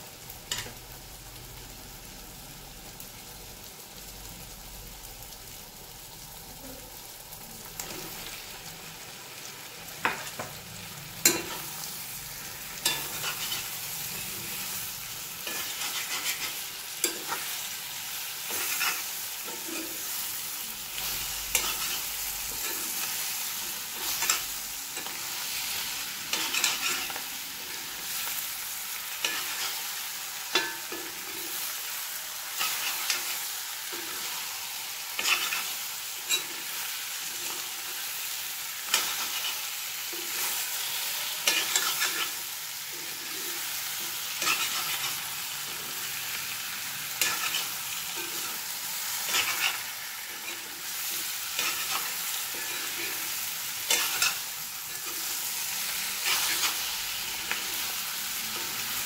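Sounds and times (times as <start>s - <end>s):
food sizzling in pan: 0.0s - 59.0s.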